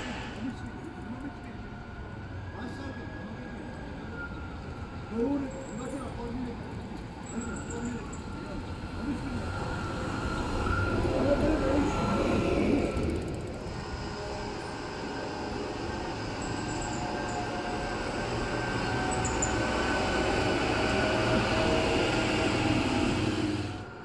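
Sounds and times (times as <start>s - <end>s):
tram wheels rumbling on rails: 0.0s - 2.3s, 4.3s - 24.0s.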